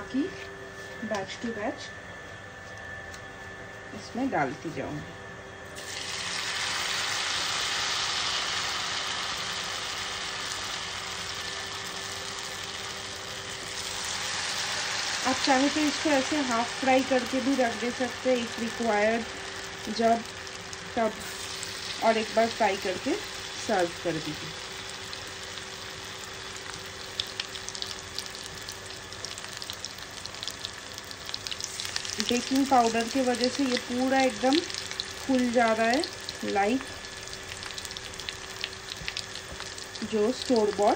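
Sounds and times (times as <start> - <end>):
prawn sizzling in hot oil: 5.7 - 40.9.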